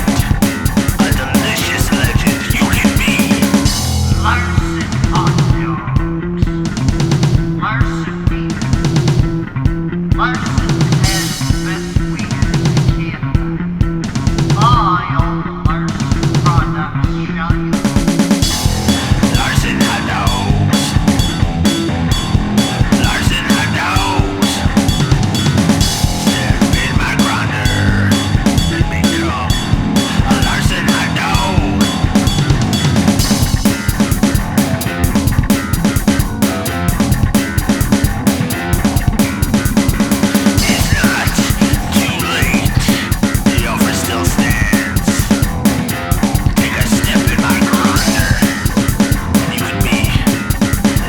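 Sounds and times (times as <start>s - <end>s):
bass guitar: 0.0s - 51.0s
drum kit beat: 0.0s - 51.0s
electric guitar: 0.0s - 51.0s
rock band music: 0.0s - 51.0s.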